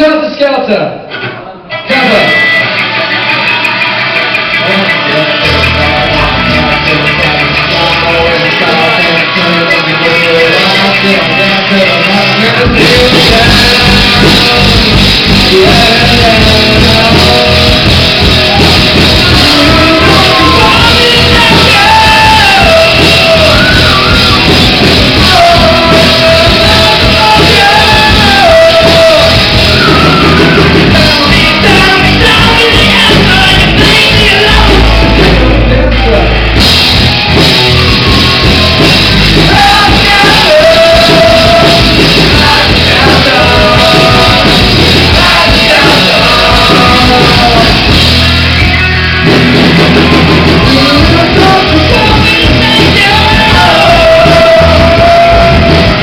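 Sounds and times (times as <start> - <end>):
rock band playing live: 0.0 - 56.0
person shouting and singing: 4.6 - 56.0.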